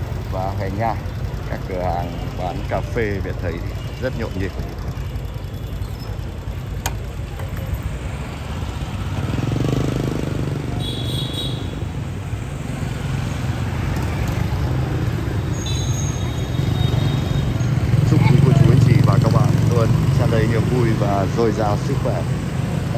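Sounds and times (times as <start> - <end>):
passing vehicle engines: 0.0 - 22.9.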